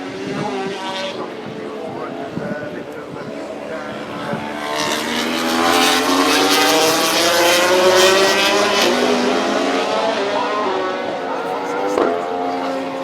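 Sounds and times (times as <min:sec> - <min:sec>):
motorcycle engines accelerating: 0:00.0 - 0:13.0.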